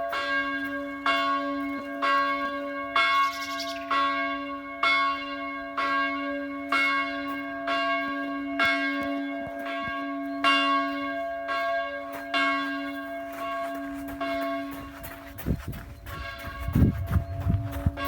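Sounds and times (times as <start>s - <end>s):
church bell ringing: 0.0s - 15.4s, 16.0s - 18.0s.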